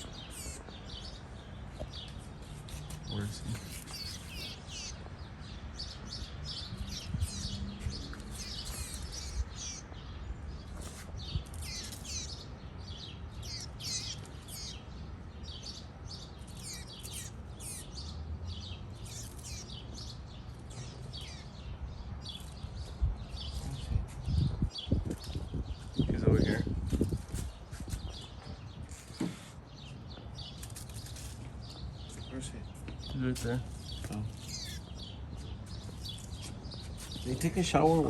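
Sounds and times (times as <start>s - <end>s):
baby bird chirping: 0.0s - 1.2s, 1.9s - 32.2s, 33.8s - 37.9s.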